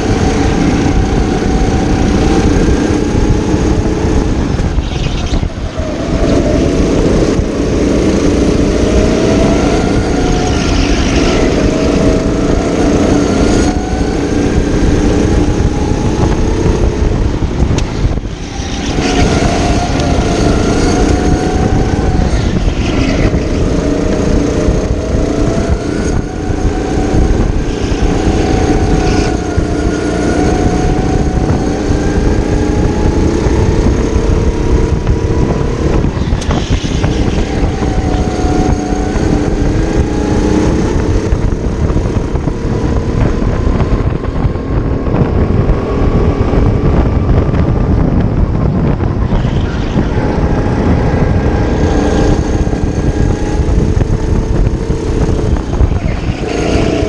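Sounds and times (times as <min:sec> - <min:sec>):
go-kart engine at full throttle: 0:00.0 - 0:57.0.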